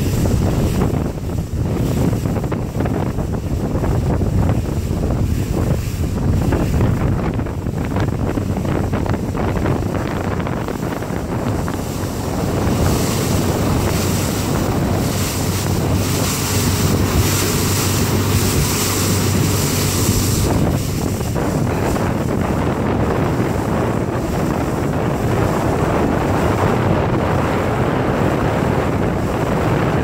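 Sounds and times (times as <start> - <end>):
motorboat engine running: 0.0 - 30.0
water rushing from wake: 0.0 - 30.0
wind buffeting microphone: 0.0 - 30.0.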